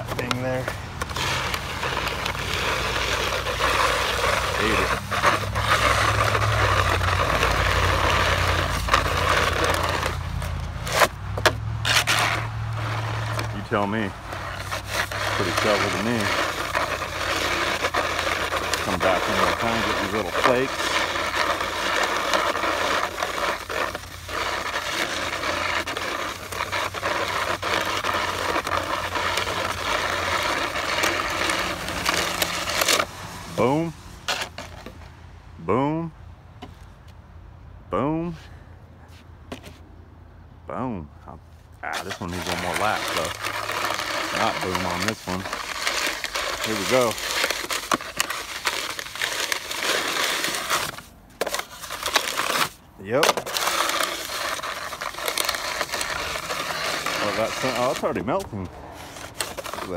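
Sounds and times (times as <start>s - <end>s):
shovel scraping on concrete: 0.0s - 35.1s, 41.8s - 59.9s.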